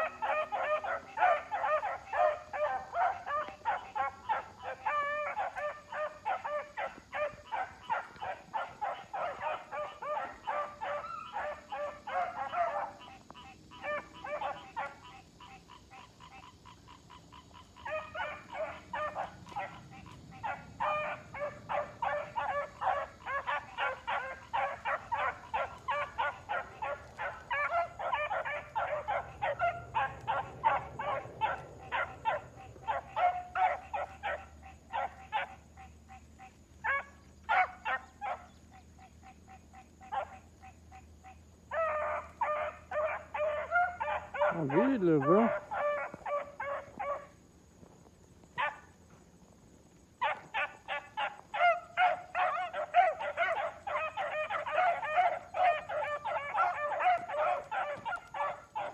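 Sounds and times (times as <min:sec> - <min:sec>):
puppies barking: 0:00.0 - 0:15.1, 0:16.7 - 0:35.9, 0:36.8 - 0:38.6, 0:39.3 - 0:40.4, 0:41.7 - 0:47.3, 0:48.6 - 0:49.0, 0:50.2 - 0:58.9.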